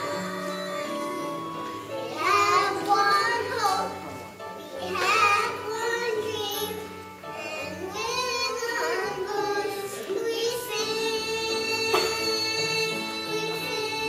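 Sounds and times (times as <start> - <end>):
girls singing a duet: 0.0 - 14.0
instrumental accompaniment: 0.0 - 14.0.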